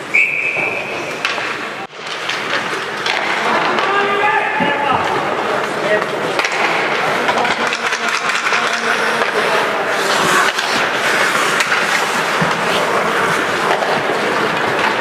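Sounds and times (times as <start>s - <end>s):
skates scraping ice: 0.0s - 15.0s
clacks of sticks and puck: 0.4s - 15.0s.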